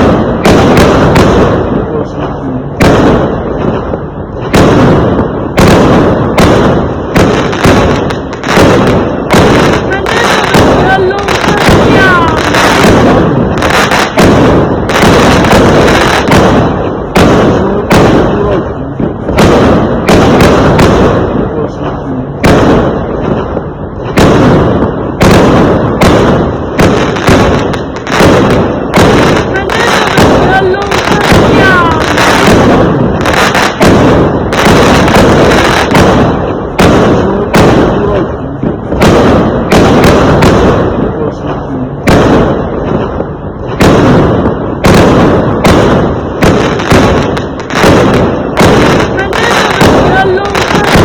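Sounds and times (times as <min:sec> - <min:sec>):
fireworks bangs with rumbling echo: 0:00.0 - 0:51.0.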